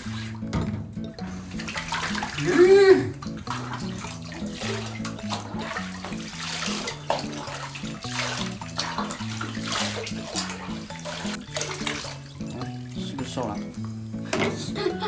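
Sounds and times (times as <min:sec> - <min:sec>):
water splashing and pouring: 0:00.0 - 0:14.7
background music: 0:00.0 - 0:15.0.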